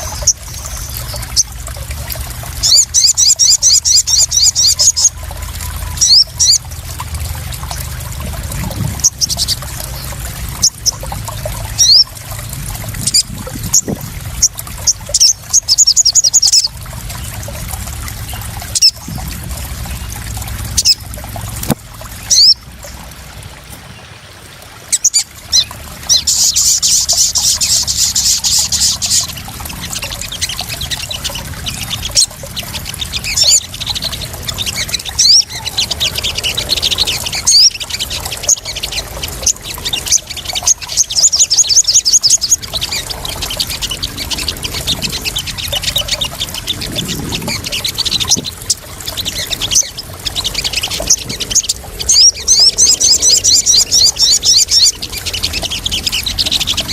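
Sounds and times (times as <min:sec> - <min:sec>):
birds chirping and twittering: 0:00.0 - 0:56.9
splashing trickling water: 0:00.0 - 0:56.9.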